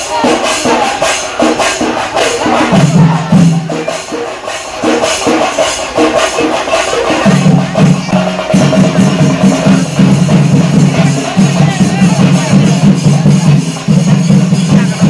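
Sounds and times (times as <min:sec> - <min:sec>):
fast drum strokes: 0:00.0 - 0:15.0
jingling cymbals: 0:00.0 - 0:15.0.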